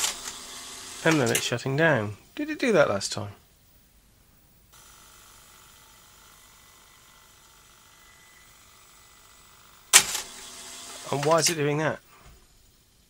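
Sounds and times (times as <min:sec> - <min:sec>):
video recorder hum and whine: 0:00.0 - 0:13.0.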